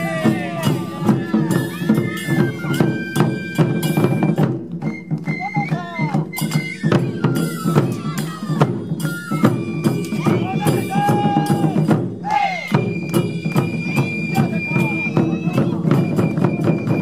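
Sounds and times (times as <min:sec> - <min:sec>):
bamboo flutes playing high melody: 0:00.0 - 0:17.0
barrel drums in driving rhythm: 0:00.0 - 0:17.0.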